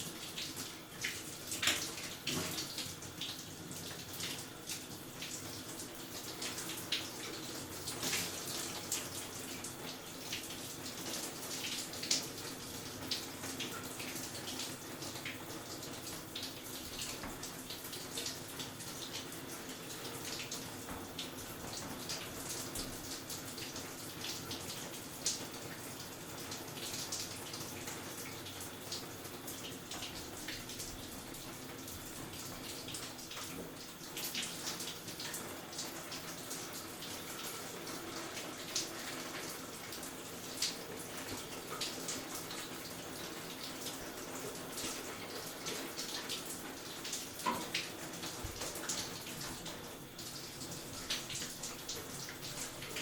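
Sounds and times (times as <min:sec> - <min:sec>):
water splashes and drips: 0:00.0 - 0:53.0.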